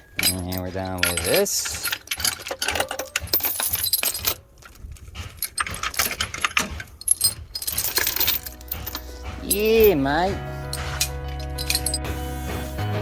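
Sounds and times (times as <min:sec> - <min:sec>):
metal tools clinking and rattling: 0:00.0 - 0:12.2.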